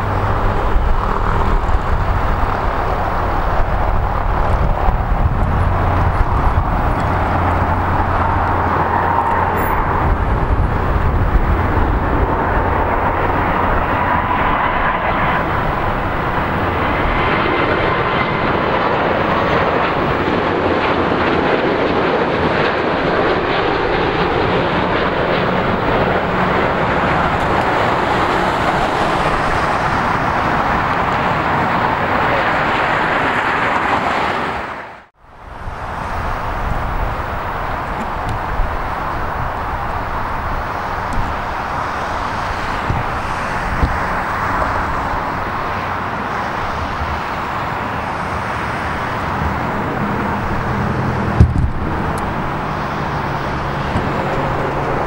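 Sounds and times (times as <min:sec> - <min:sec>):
jet airliner passing low: 0:00.0 - 0:55.0.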